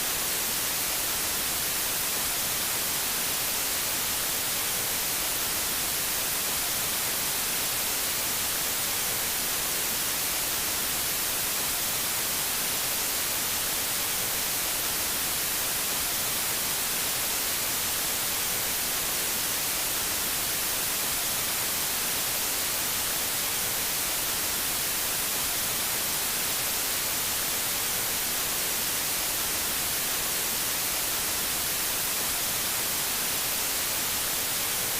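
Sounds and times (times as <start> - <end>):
tv static hiss: 0.0 - 34.9.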